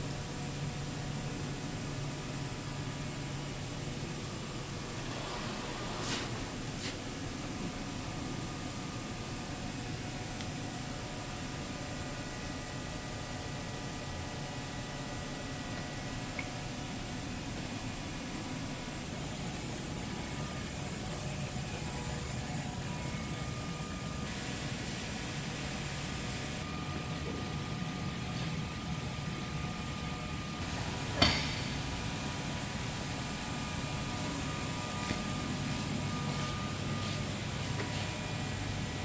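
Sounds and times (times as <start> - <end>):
machinery hum and hiss: 0.0 - 39.0.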